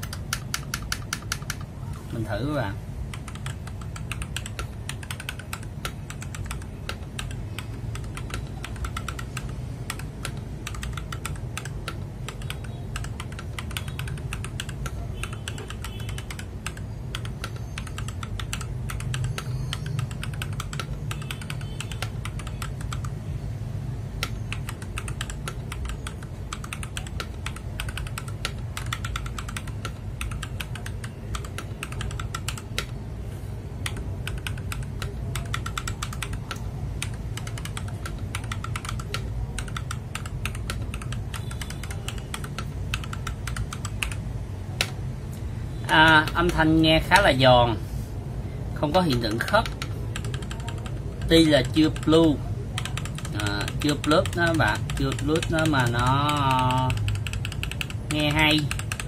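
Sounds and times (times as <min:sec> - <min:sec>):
fast typing on mechanical keyboard: 0:00.0 - 0:23.3, 0:24.1 - 0:33.1, 0:33.7 - 0:45.0, 0:45.8 - 0:47.8, 0:48.8 - 0:59.0.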